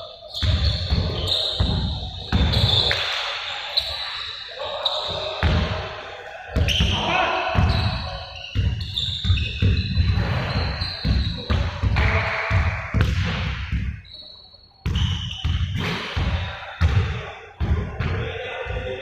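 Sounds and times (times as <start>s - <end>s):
basketballs bouncing on gym floor: 0.3s - 3.1s, 5.1s - 5.8s, 6.6s - 14.1s, 14.8s - 19.0s.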